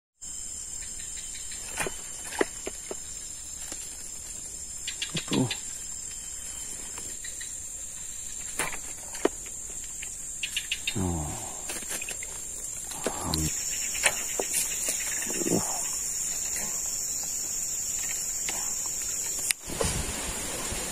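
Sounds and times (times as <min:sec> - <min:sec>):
high-pitched insect drone: 0:00.2 - 0:19.6.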